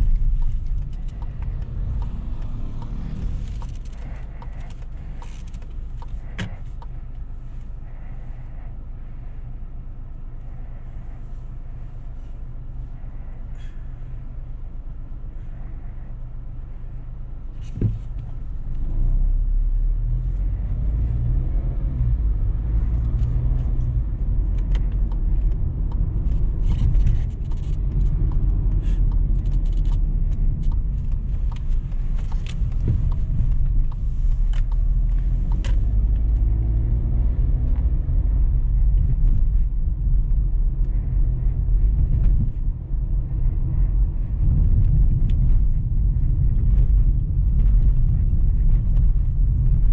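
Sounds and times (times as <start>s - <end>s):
car engine and tyre rumble: 0.0s - 49.9s.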